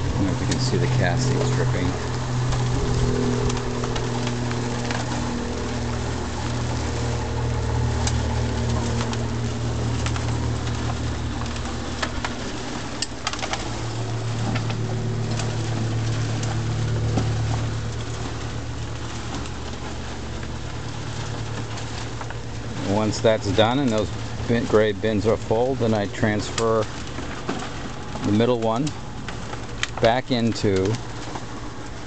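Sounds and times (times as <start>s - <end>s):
drum screener motor humming: 0.0s - 32.0s
worm castings pattering into bins: 0.0s - 32.0s.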